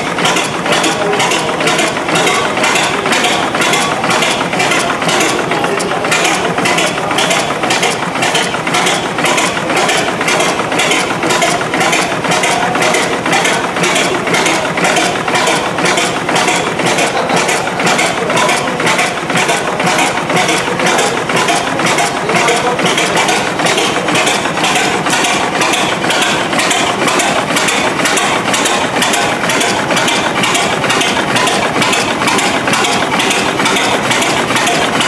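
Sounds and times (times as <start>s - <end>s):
gas engine clattering rhythmically: 0.0s - 35.0s.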